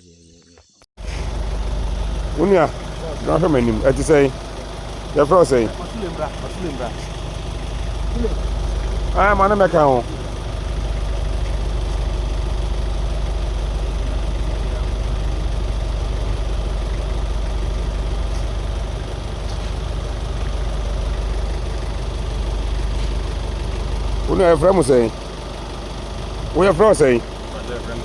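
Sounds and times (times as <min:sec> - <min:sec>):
engine idling: 0:01.0 - 0:28.0.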